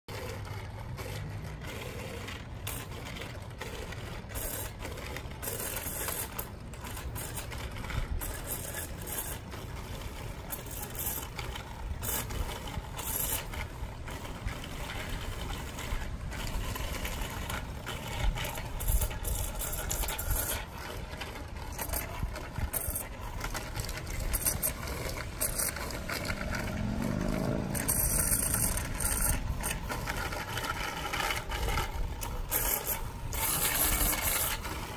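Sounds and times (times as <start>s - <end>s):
bicycle tyres rolling on pavement: 0.1s - 34.9s
low steady rumble: 0.1s - 34.9s
small rattles and scrapes: 0.1s - 34.9s.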